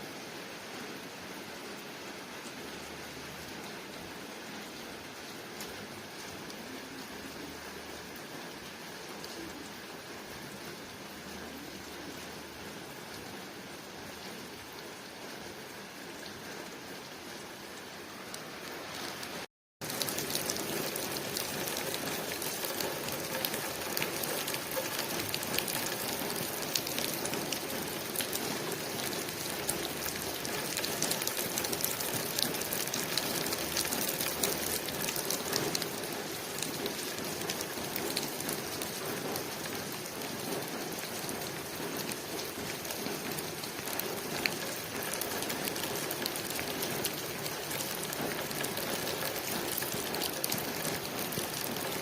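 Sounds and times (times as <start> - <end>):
rain on a window pane: 0.0 - 52.0.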